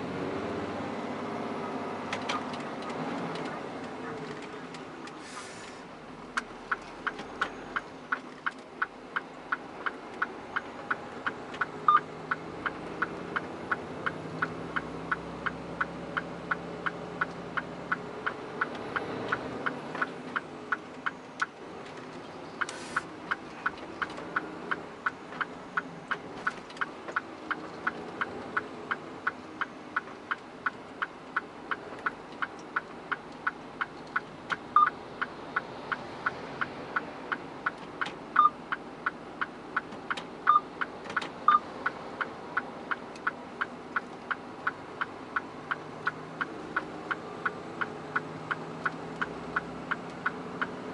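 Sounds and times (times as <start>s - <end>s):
low engine hum: 0.0s - 50.9s
turn signal ticking: 5.9s - 50.9s.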